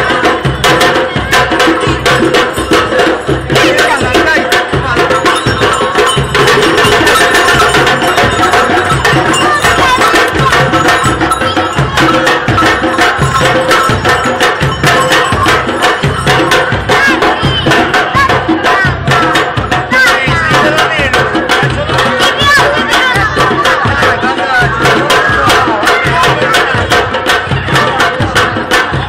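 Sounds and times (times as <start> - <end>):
hand drums playing: 0.0 - 29.0.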